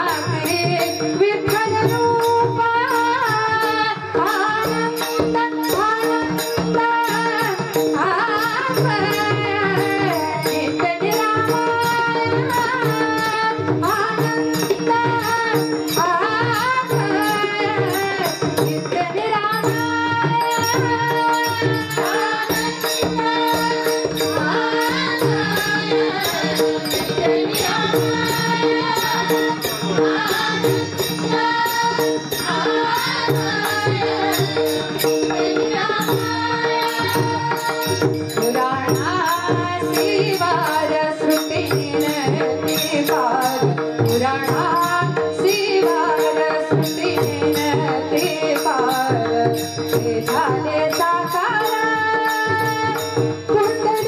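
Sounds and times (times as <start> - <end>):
woman singing: 0.0 - 54.0.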